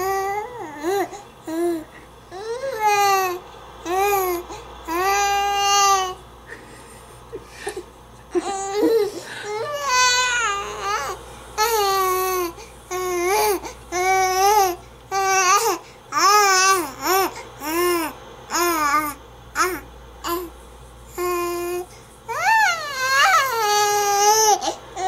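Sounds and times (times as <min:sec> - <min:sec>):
baby babbling: 0:00.0 - 0:06.2, 0:08.4 - 0:20.5, 0:21.2 - 0:25.0.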